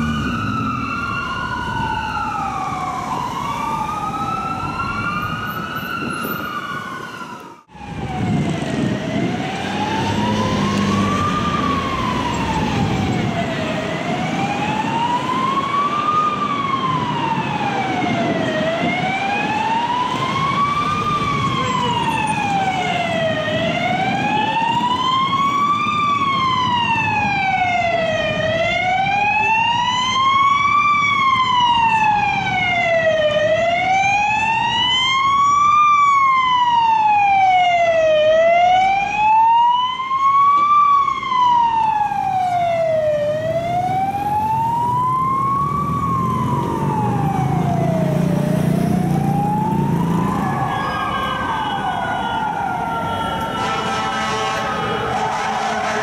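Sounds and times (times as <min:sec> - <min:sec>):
siren wailing: 0:00.0 - 0:56.0
traffic noise: 0:00.0 - 0:56.0.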